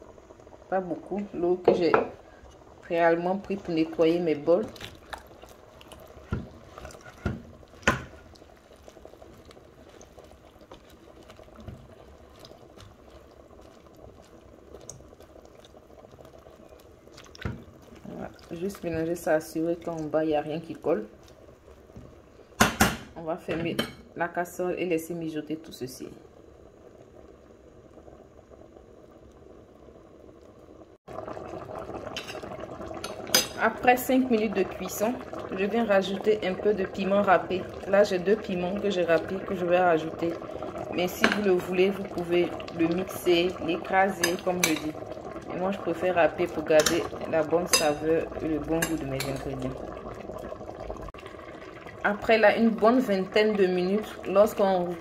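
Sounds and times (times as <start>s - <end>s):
sauce simmering: 0.0s - 23.2s, 24.0s - 55.0s
stew bubbling in pot: 0.0s - 55.0s.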